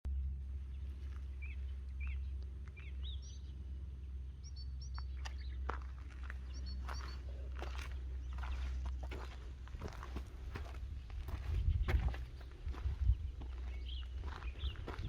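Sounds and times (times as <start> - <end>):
low rumble: 0.1 - 15.0
small birds chirping: 0.5 - 15.0.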